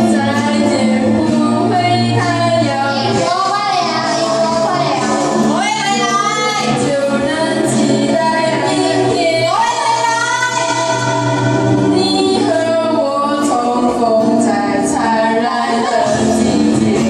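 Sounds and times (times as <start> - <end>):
group of women singing: 0.0 - 17.0.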